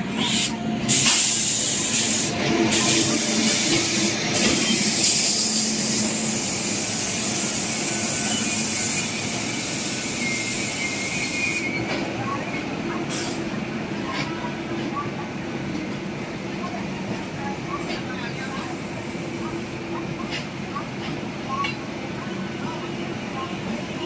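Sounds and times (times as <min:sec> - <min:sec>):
train coaches rolling past: 0:00.0 - 0:24.0.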